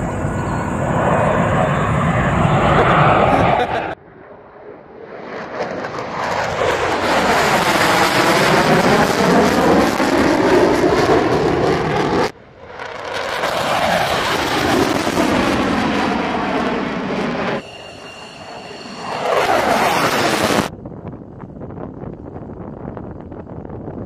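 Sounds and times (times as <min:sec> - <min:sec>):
fighter jet passing overhead: 0:00.0 - 0:21.2.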